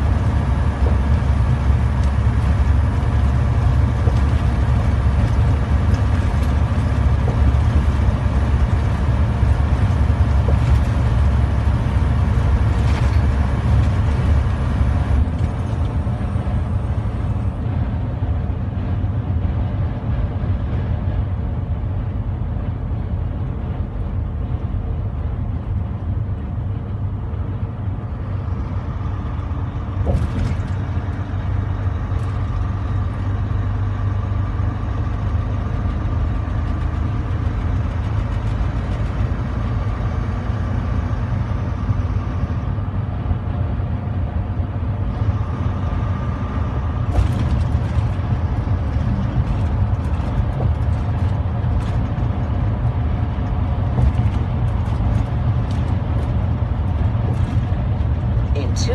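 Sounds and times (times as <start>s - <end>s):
truck engine and tyres rumbling: 0.0s - 58.9s.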